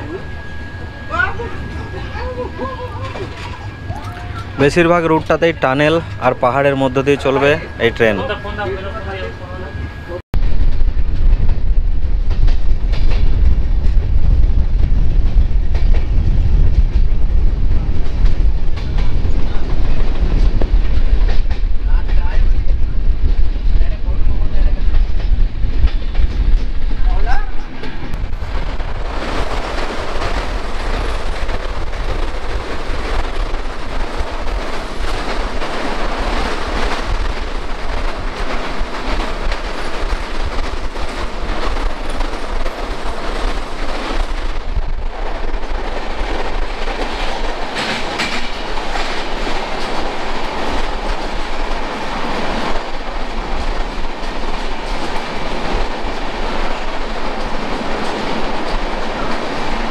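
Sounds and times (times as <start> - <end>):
wind buffeting microphone: 9.8 - 59.9
train wheels clickety-clack: 10.4 - 59.9.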